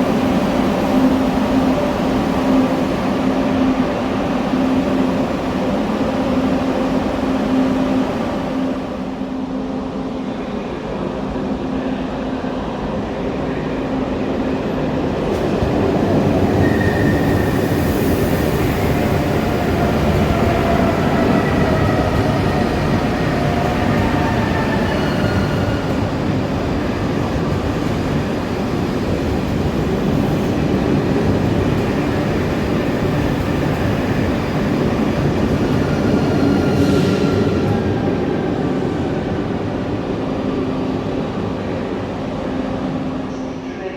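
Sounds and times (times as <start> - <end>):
high-speed train rumbling: 0.0 - 43.9.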